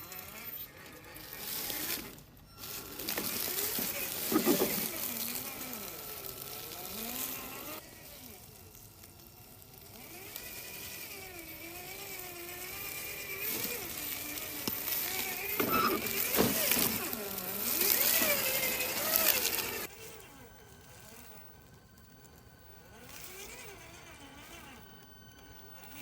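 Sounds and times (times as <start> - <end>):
rc car electric motor whining: 0.0 - 26.0
tyres scraping on ground: 0.0 - 26.0.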